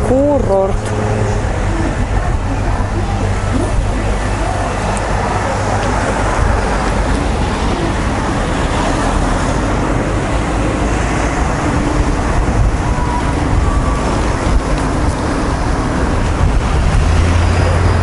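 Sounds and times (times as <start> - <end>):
outdoor background noise: 0.0 - 18.0
rumble of passing vehicles: 0.0 - 18.0.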